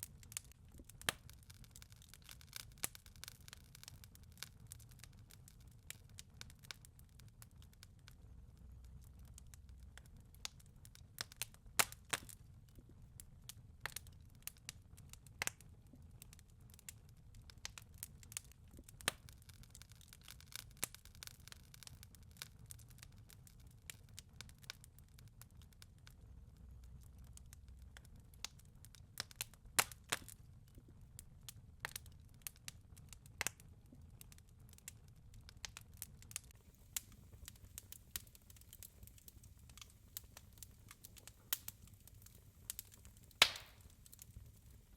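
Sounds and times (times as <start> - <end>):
fire crackling: 0.0 - 44.9.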